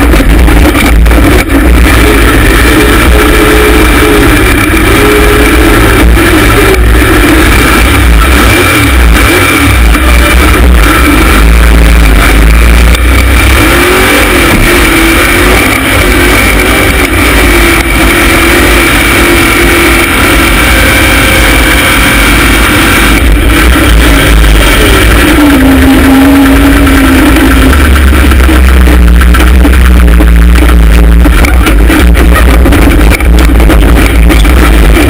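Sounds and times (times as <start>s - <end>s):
engine revving under load: 0.0s - 35.0s.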